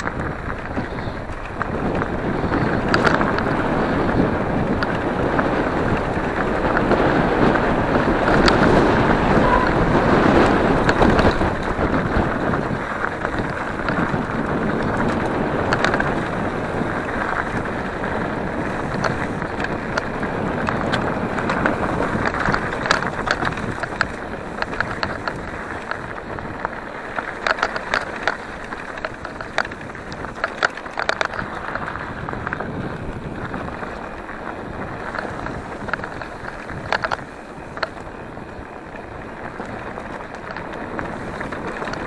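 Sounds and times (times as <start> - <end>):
bike clicking and rattling: 0.0 - 42.0
bike tyres on dirt: 0.0 - 42.0
wind on microphone: 0.0 - 42.0.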